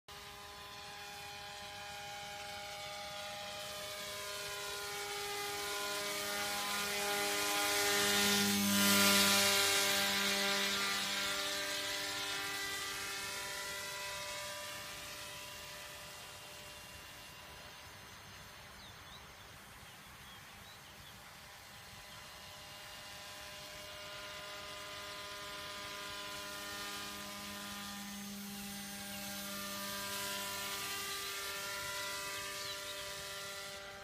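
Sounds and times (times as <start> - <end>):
model aircraft motor whining: 0.1 - 34.0.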